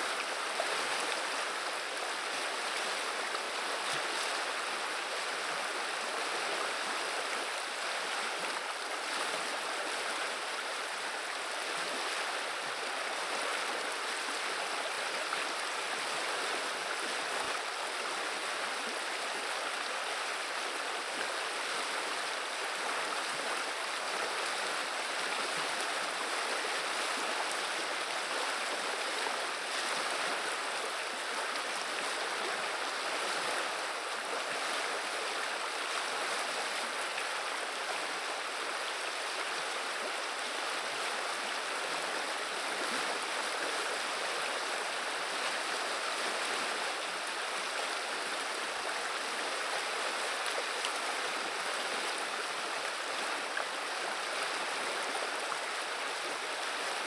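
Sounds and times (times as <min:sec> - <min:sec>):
river rushing and babbling: 0:00.0 - 0:57.0.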